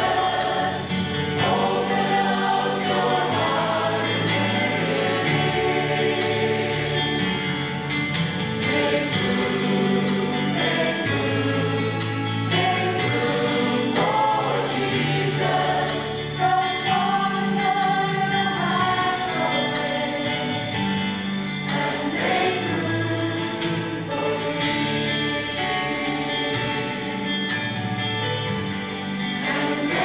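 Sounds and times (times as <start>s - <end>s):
choir singing gospel song: 0.0s - 30.0s
instrumental accompaniment: 0.0s - 30.0s.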